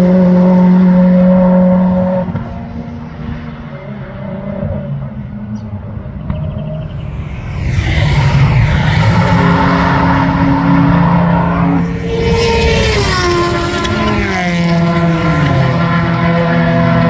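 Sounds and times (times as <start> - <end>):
race car engine passing by: 0.0 - 17.0.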